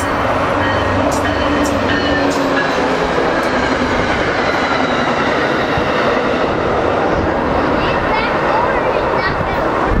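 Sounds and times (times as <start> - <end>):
train wheels rushing on rails: 0.0 - 10.0.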